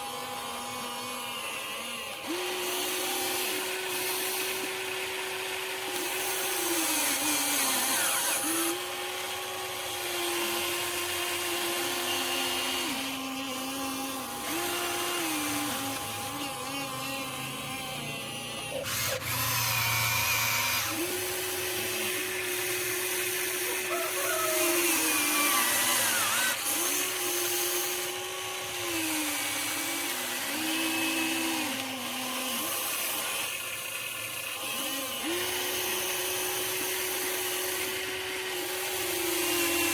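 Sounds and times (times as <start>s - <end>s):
electric motors whining: 0.0s - 39.9s.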